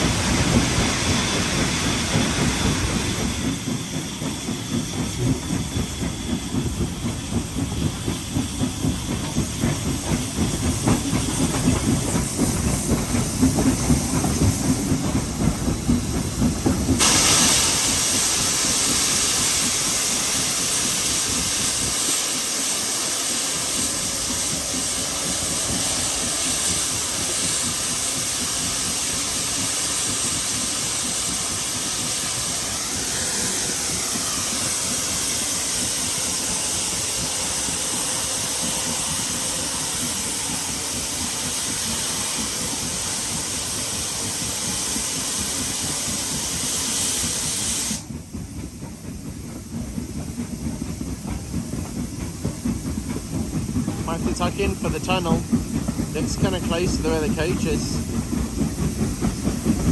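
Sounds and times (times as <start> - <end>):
steam hissing: 0.0 - 59.9
steam train rhythmic pulsing: 0.0 - 59.9.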